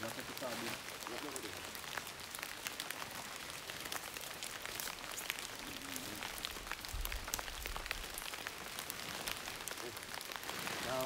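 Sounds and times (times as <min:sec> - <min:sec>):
rain on foliage: 0:00.0 - 0:11.0.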